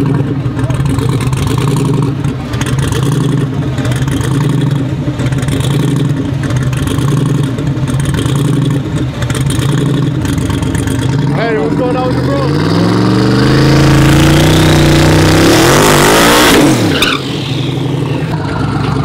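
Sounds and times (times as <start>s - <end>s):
truck engine idling: 0.0s - 15.4s, 16.7s - 19.0s.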